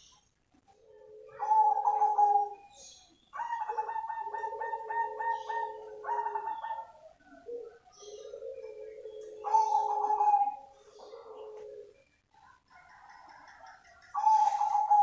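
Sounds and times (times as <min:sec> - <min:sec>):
dove cooing: 0:00.6 - 0:02.8, 0:03.4 - 0:15.0.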